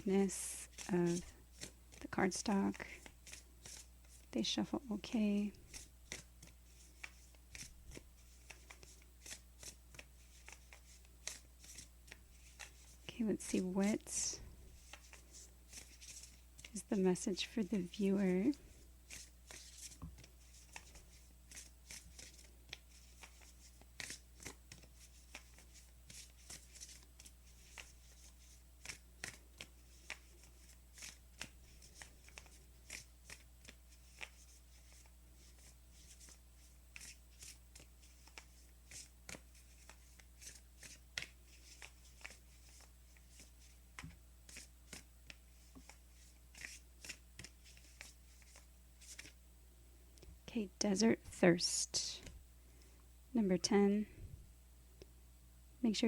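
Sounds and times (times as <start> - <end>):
cards being shuffled: 0.3 - 4.3, 4.9 - 14.1, 14.8 - 49.4.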